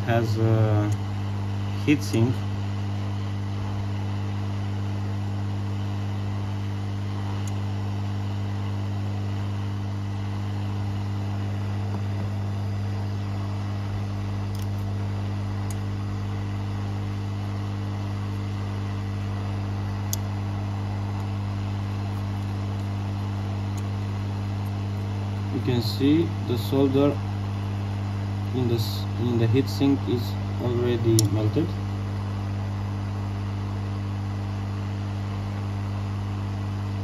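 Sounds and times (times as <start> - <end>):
hot-air blower humming and hissing: 0.0 - 37.0.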